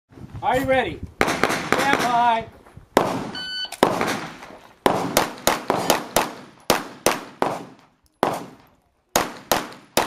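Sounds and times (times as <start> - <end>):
pistol shots echoing: 1.2 - 2.2, 3.0 - 10.0.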